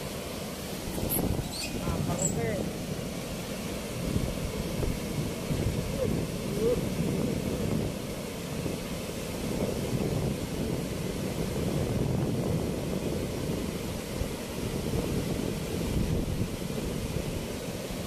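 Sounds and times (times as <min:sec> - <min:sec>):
river water roaring through sluice: 0:00.0 - 0:18.0.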